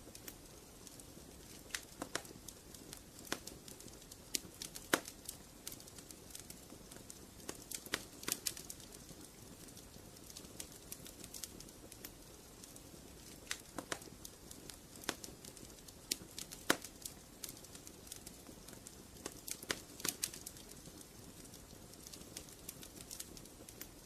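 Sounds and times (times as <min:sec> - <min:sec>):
soft fire hiss: 0:00.0 - 0:24.0
wood fire pops and snaps: 0:00.0 - 0:24.0.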